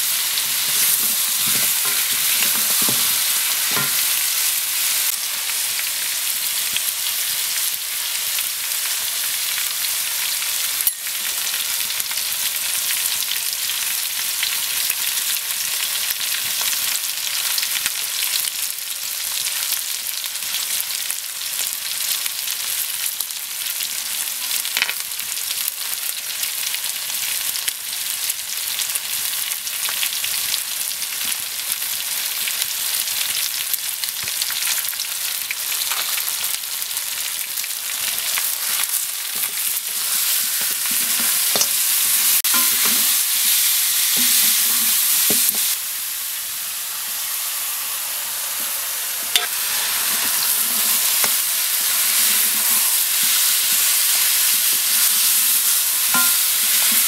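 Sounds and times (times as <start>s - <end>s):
meat and onions sizzling in oil: 0.0s - 57.0s.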